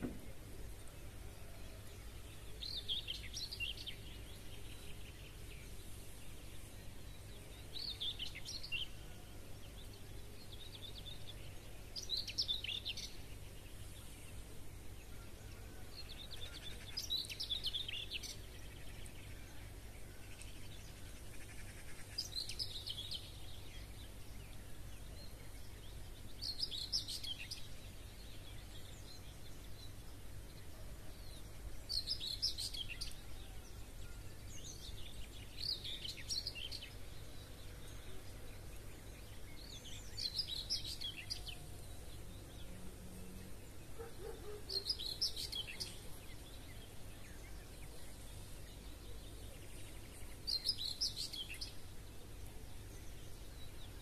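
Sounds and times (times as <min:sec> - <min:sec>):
songbird twittering: 0:00.0 - 0:54.0.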